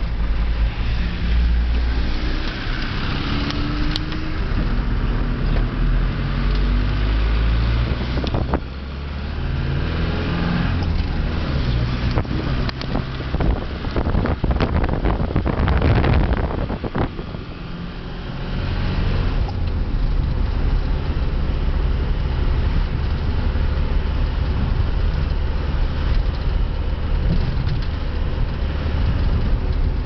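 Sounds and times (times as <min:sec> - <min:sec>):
car engine: 0:00.0 - 0:30.0
road rumble: 0:00.0 - 0:30.0.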